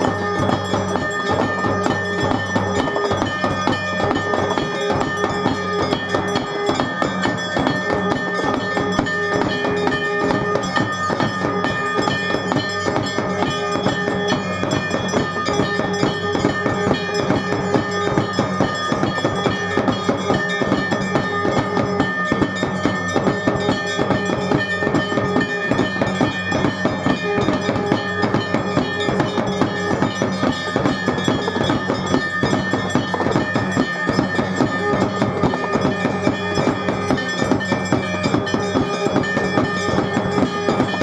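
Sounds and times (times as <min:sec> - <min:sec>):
drum beat: 0:00.0 - 0:41.0
ringing bell strikes: 0:00.0 - 0:41.0.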